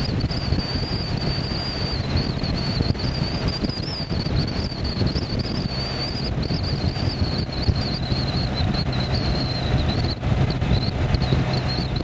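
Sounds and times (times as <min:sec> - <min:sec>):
motorcycle engine rumble: 0:00.0 - 0:12.0
thin high whine: 0:00.0 - 0:12.0
wind buffeting microphone: 0:00.0 - 0:12.0.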